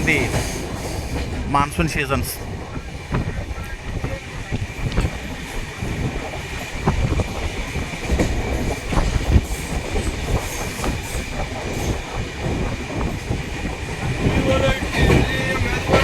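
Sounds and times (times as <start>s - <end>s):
train wheels rumbling on rail: 0.0s - 16.0s
clacks and knocks: 2.4s - 16.0s.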